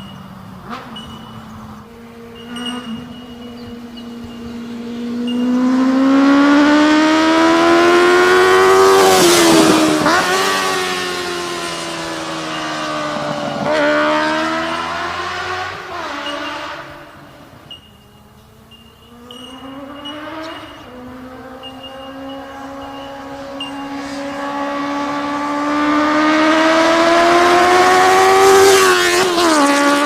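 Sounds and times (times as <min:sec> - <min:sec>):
motorcycle engine at speed: 0:00.0 - 0:30.0.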